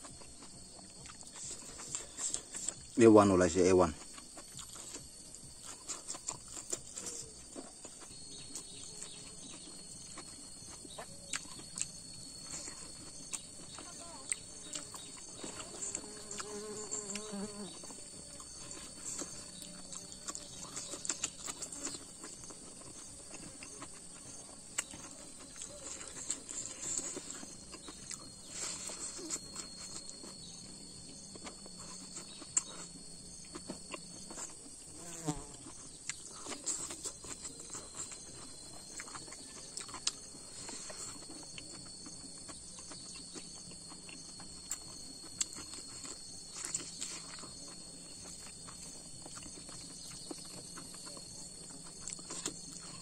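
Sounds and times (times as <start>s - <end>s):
chewing and mouth smacks: 0.0s - 3.0s, 4.0s - 53.0s
high-pitched insect drone: 0.1s - 53.0s.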